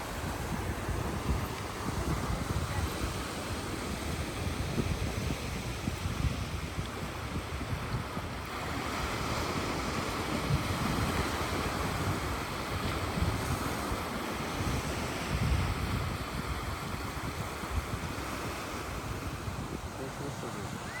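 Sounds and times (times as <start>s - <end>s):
surf washing onto beach: 0.0s - 21.0s
wind rumbling on microphone: 0.0s - 21.0s.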